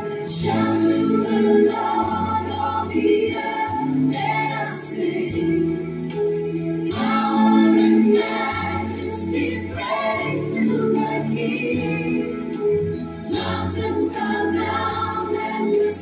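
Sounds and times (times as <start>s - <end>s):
steady bass line: 0.0s - 16.0s
woman and choir singing: 0.3s - 5.6s, 6.9s - 12.4s, 13.3s - 16.0s.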